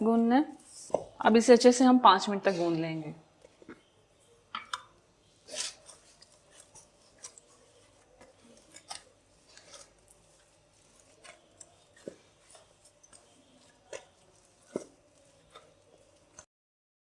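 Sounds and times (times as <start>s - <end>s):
dough kneaded by hand: 0.0s - 16.5s.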